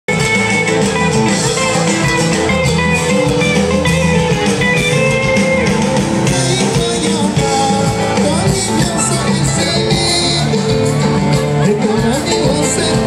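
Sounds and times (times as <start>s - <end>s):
guitar: 0.1s - 13.0s
live band music: 0.1s - 13.0s.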